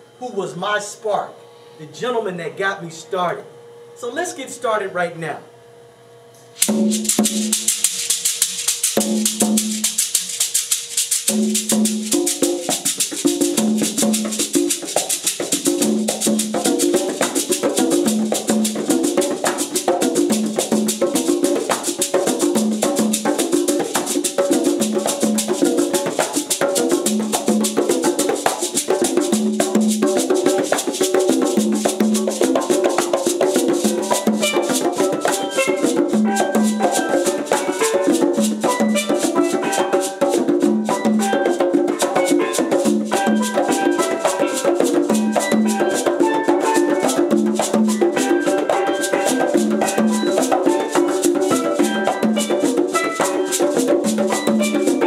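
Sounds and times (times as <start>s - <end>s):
congas slapped by hand: 6.6s - 55.0s
shekere rattle: 6.6s - 55.0s.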